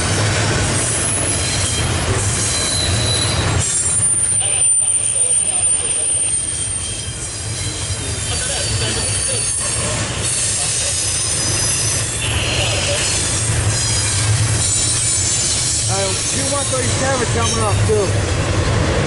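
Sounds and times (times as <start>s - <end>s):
train wheels rumbling on track: 0.0s - 19.0s
wheel squeal: 0.1s - 17.8s.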